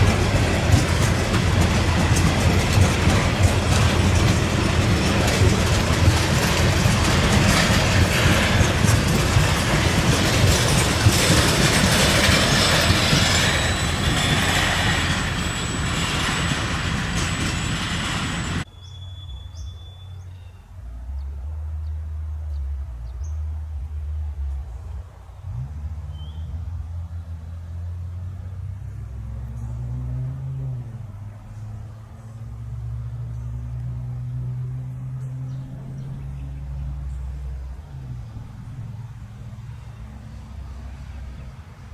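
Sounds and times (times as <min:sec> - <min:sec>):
freight train wagons rolling past: 0:00.0 - 0:41.9.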